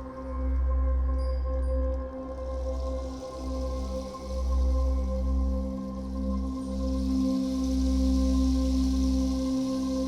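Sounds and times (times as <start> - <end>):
background music with held tones: 0.0 - 10.0.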